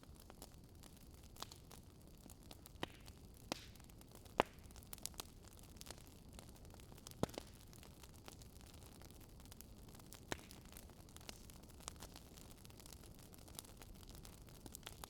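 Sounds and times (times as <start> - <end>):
faint steady hiss: 0.0 - 15.0
wood fire crackling: 0.0 - 15.0.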